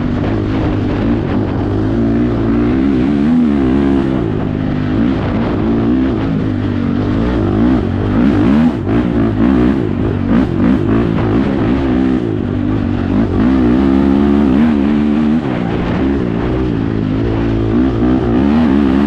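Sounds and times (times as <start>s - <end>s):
quad engine revving: 0.0s - 19.0s.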